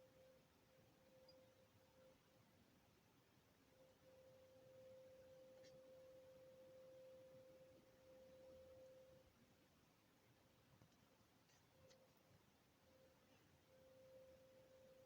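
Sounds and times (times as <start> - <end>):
faint steady distant hum: 0.0 - 15.0.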